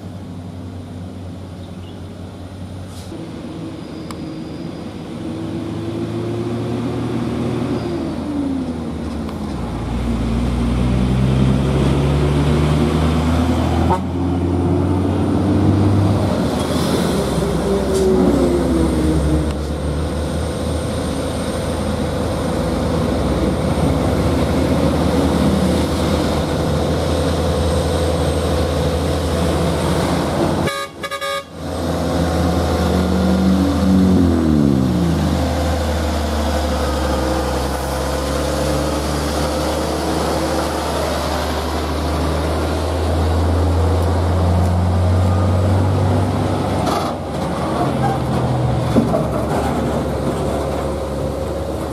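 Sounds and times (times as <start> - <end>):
diesel truck engine droning: 0.0 - 51.9.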